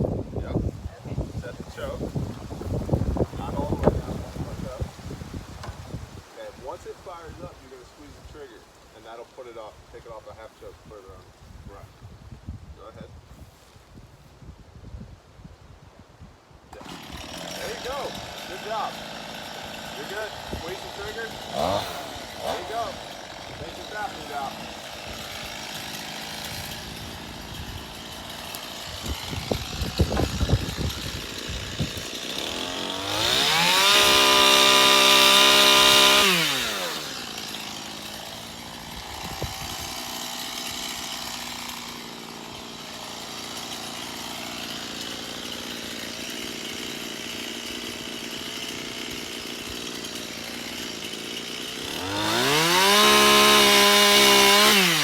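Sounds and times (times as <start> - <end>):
chainsaw idling and revving: 1.1 - 11.0, 16.7 - 55.0.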